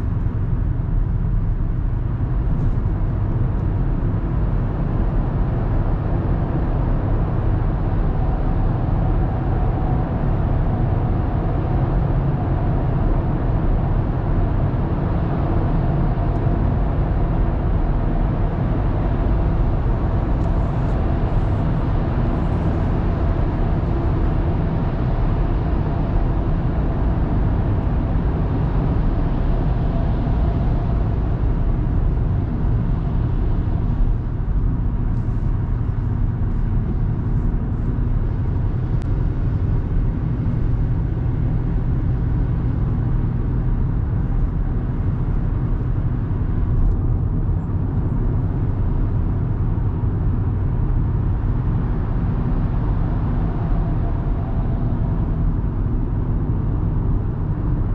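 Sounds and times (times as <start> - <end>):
car engine rumble: 0.0 - 57.9.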